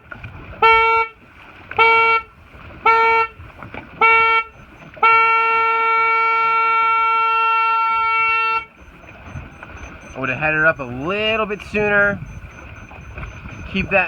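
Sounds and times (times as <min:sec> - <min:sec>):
starting horn blasts: 0:01.8 - 0:03.4, 0:04.0 - 0:14.0.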